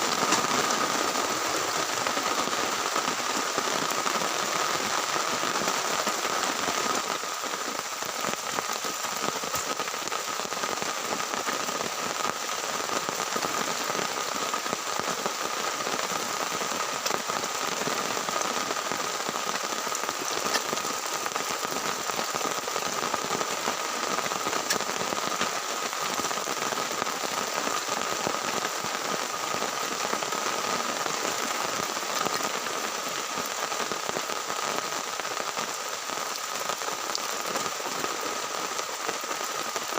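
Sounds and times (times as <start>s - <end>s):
heavy rain on tent: 0.0s - 39.9s.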